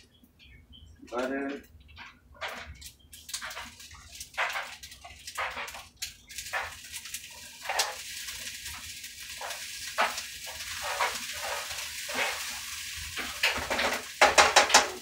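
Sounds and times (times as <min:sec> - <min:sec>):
utensil stirring and scraping: 0:02.0 - 0:14.8
rice sizzling in a pan: 0:02.4 - 0:15.0.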